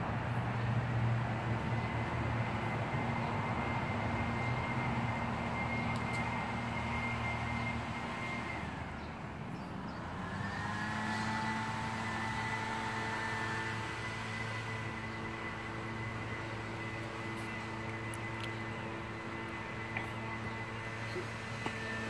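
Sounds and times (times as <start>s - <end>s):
motor whining and humming: 0.6s - 22.0s.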